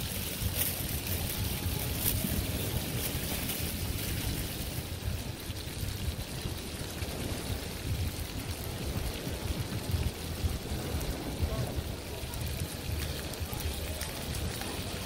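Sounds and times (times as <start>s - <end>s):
steady hiss: 0.0s - 15.0s
wind buffeting microphone: 0.0s - 15.0s.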